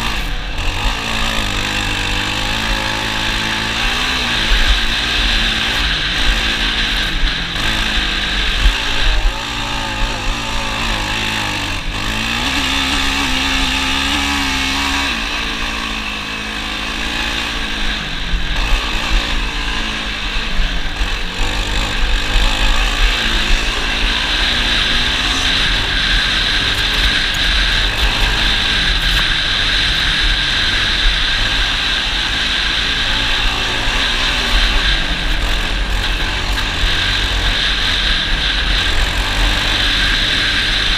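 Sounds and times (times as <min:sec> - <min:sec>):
atv engine revving: 0:00.0 - 0:40.9
rushing noise: 0:00.0 - 0:40.9.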